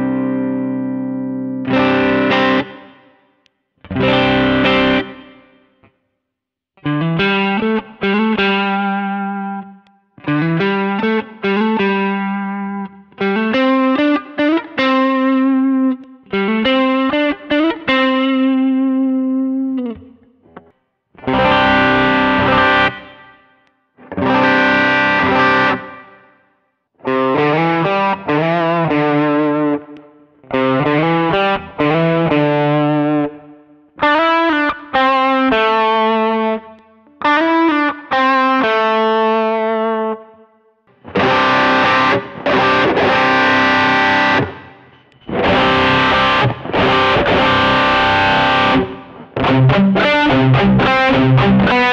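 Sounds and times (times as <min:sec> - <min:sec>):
overdriven electric guitar chords: 0:00.0 - 0:06.0, 0:06.8 - 0:51.9.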